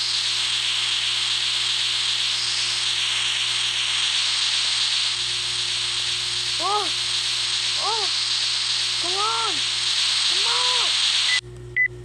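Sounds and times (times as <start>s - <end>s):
food sizzling in a pan: 0.0s - 11.4s.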